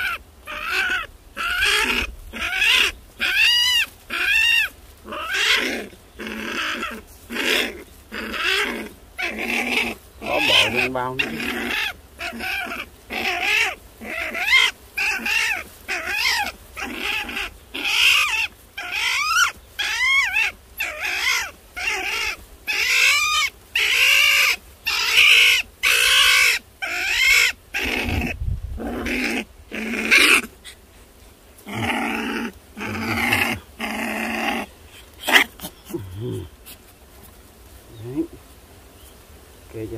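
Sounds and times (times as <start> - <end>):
young animal yelping: 0.0 - 30.9, 31.6 - 37.0.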